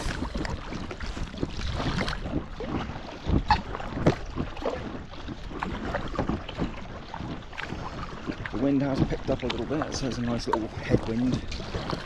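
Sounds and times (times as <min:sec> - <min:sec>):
paddle strokes splashing water: 0:00.0 - 0:12.0
wind noise on microphone: 0:00.0 - 0:12.0.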